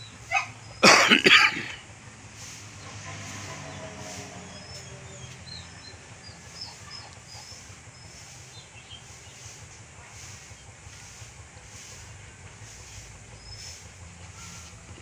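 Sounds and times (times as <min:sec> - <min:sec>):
birds chirping: 0:00.0 - 0:15.0
faint outdoor background noise: 0:00.0 - 0:15.0.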